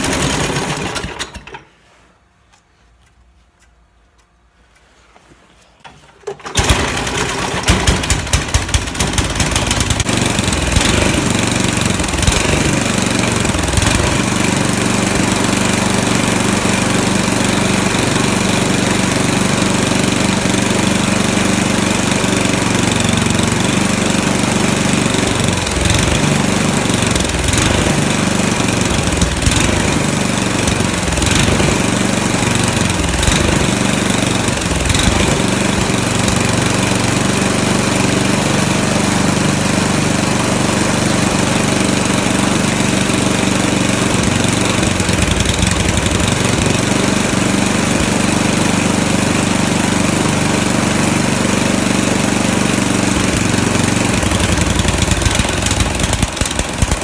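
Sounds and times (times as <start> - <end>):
snowblower engine running: 0.0 - 1.7, 6.2 - 57.0.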